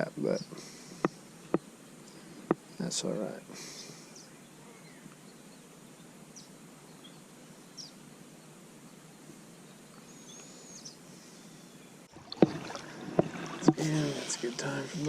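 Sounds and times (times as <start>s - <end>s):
faint bird chirps: 0.0s - 12.1s.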